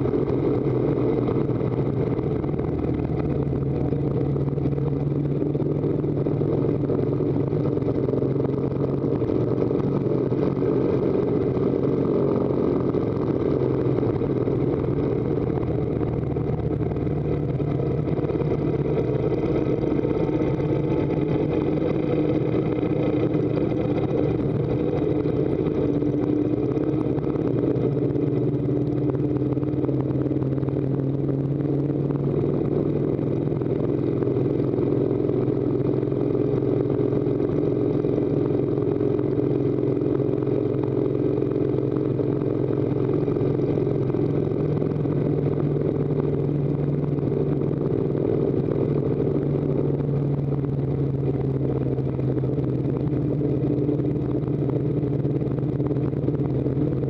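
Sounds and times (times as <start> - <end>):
motorcycle engine under load: 0.0 - 57.0
wind and road noise: 0.0 - 57.0.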